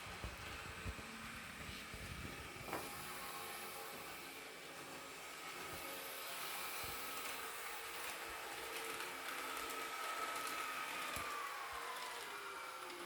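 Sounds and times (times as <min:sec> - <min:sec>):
electric motor whine from speaker: 0:00.0 - 0:13.0.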